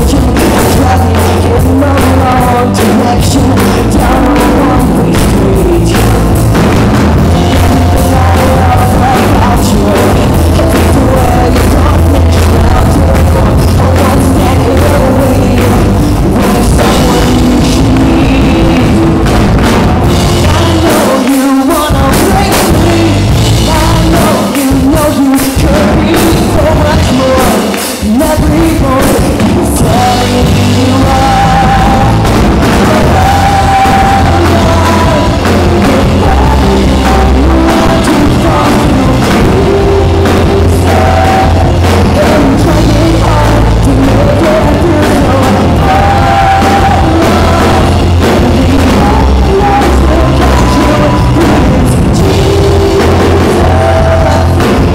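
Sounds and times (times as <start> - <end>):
wavering melodic lead line: 0.0 - 25.0, 28.1 - 54.9
drum kit: 0.0 - 54.9
loud rock band playing: 0.0 - 54.9.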